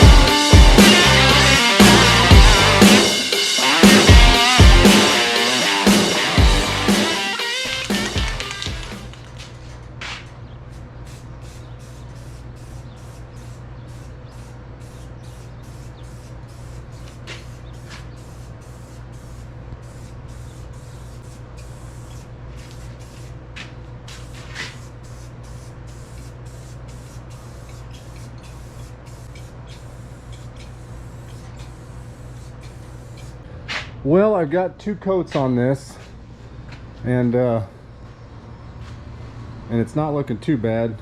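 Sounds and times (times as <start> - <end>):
spray paint hissing: 0.0 - 33.5.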